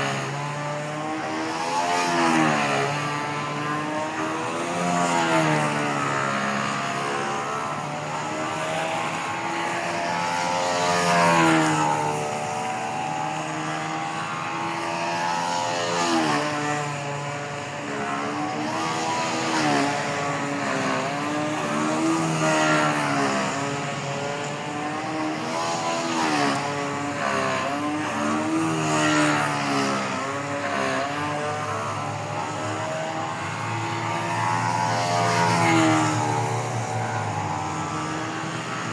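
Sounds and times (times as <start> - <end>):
model airplane nitro engine: 0.0 - 38.9.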